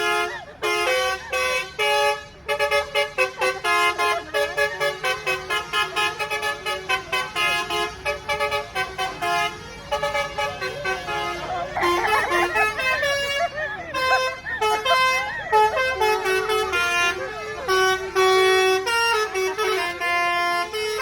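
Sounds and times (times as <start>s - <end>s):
multi-tone musical air horn: 0.0s - 21.0s.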